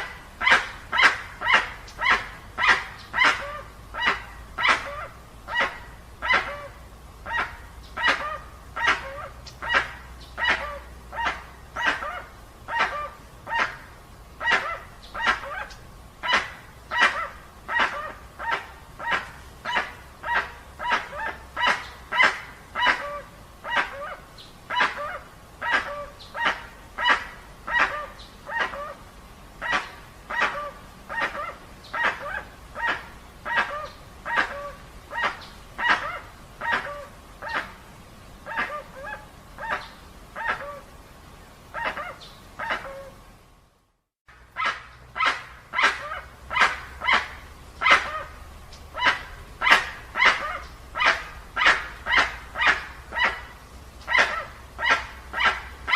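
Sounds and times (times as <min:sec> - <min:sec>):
bird barking calls: 0:00.0 - 0:29.0, 0:29.6 - 0:37.8, 0:44.5 - 0:55.9.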